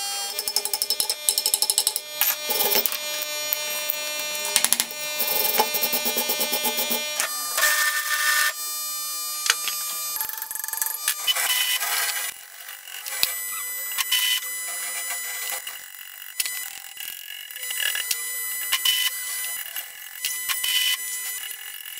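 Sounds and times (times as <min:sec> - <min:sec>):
angle grinder on steel: 0:00.0 - 0:08.6, 0:09.4 - 0:21.9.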